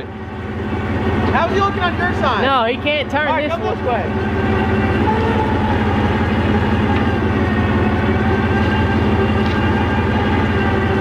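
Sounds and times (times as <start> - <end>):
electric winch running under load: 0.0 - 11.0.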